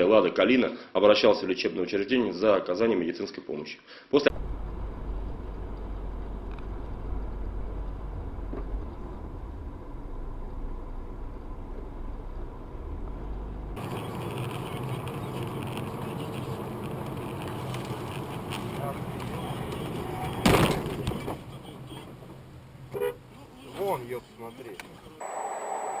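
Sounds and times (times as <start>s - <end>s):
car road and engine noise: 4.3s - 25.3s.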